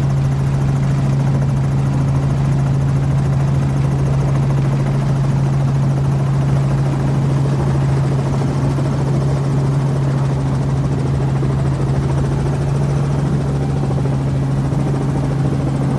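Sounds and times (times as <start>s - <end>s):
helicopter flying: 0.0s - 15.9s.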